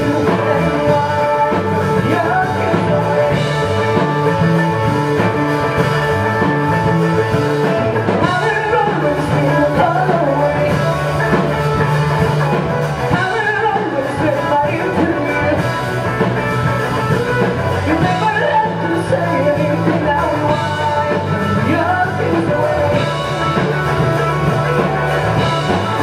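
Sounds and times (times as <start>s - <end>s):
drum kit: 0.0s - 26.0s
electric guitars: 0.0s - 26.0s
man singing: 0.0s - 26.0s.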